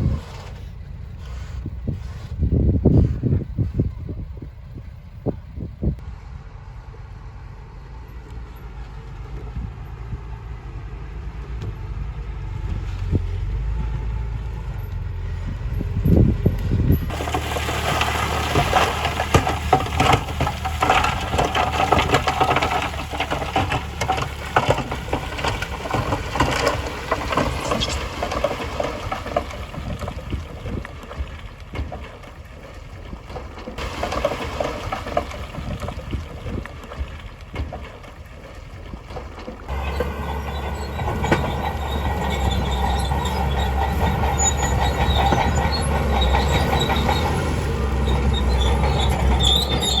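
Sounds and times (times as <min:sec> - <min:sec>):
low engine hum: 0:00.0 - 0:50.0
gravel crunching and clattering: 0:08.0 - 0:50.0.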